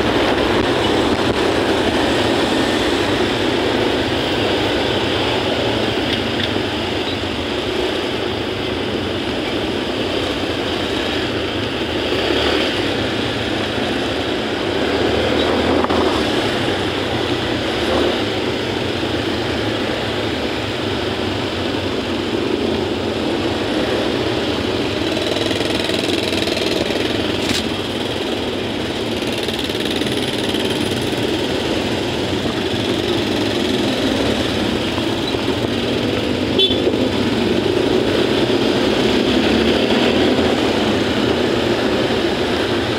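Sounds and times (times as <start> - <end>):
motorcycle and car traffic: 0.0 - 42.9.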